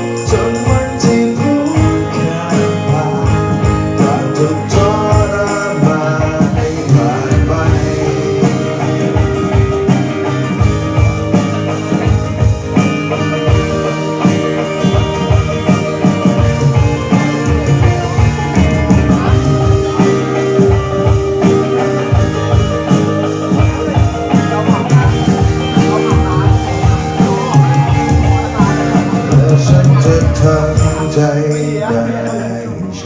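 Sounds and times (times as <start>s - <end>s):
bass guitar: 0.0s - 33.0s
drum kit beat: 0.0s - 33.0s
electric guitar: 0.0s - 33.0s.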